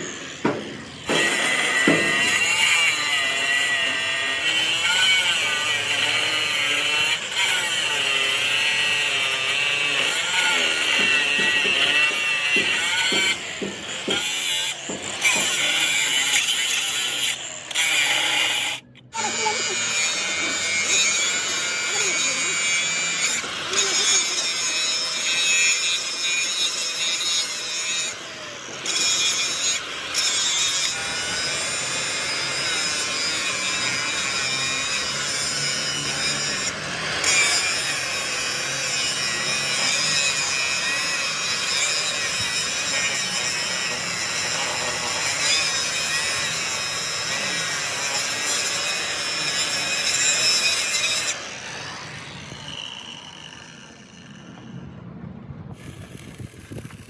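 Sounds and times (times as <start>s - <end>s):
angle grinder grinding steel: 0.0s - 54.6s.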